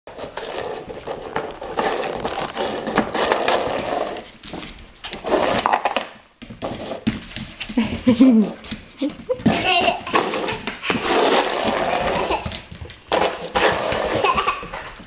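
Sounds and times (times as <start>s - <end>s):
plastic ball rattling across floor: 0.2s - 8.2s, 9.2s - 15.0s.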